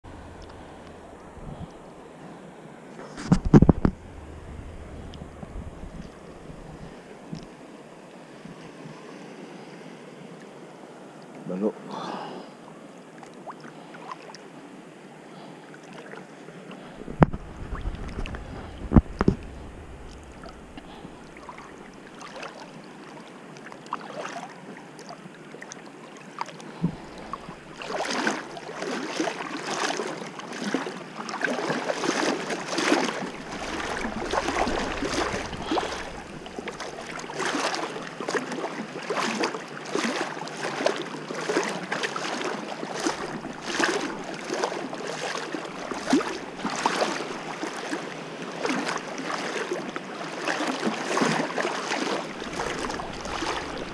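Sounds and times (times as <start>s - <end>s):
seawater sloshing and splashing: 0.0s - 2.1s, 3.0s - 7.6s, 15.8s - 53.9s.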